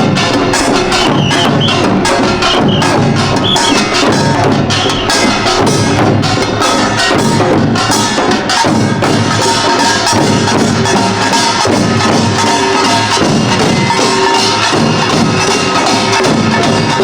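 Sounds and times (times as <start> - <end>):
hourglass and barrel drums: 0.0 - 17.0
small gongs clanging: 0.0 - 17.0.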